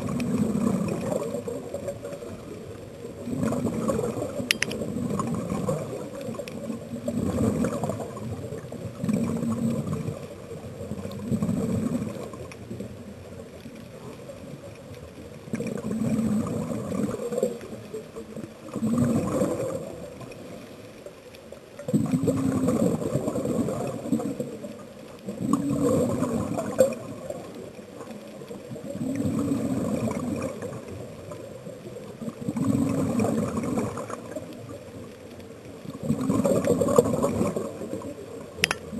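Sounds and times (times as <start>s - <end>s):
exhaled bubbles gurgling: 0.0s - 38.9s
steady underwater hiss: 0.0s - 38.9s.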